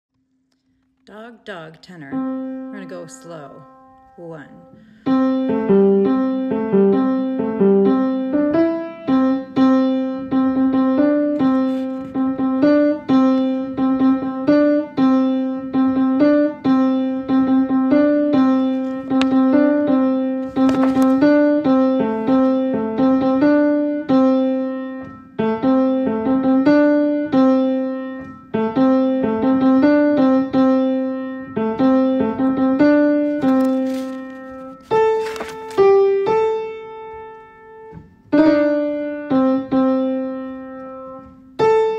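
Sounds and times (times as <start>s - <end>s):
slow piano notes: 1.4s - 41.9s.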